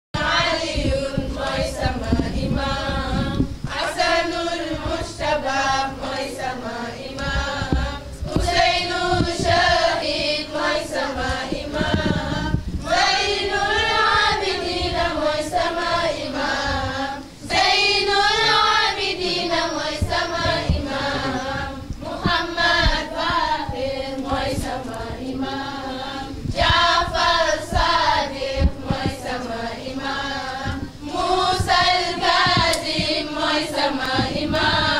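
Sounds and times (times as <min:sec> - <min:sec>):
group chanting: 0:00.2 - 0:34.9.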